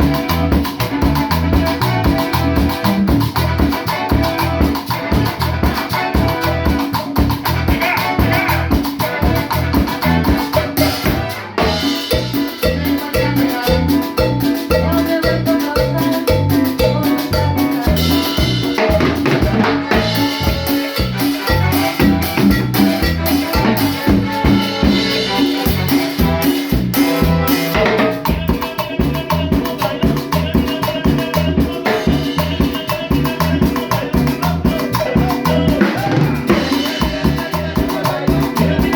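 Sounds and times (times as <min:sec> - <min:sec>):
cumbia band playing: 0:00.0 - 0:38.9
driving drum beat: 0:00.0 - 0:38.9.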